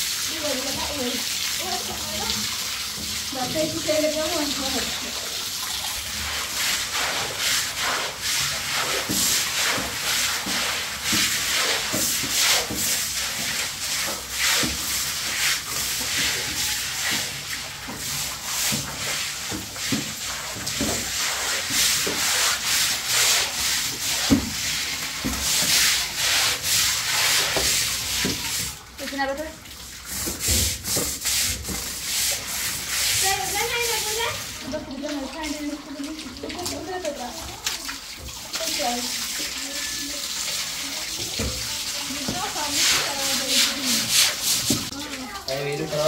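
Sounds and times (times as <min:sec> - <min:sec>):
brooms scrubbing wet concrete: 0:00.0 - 0:46.0.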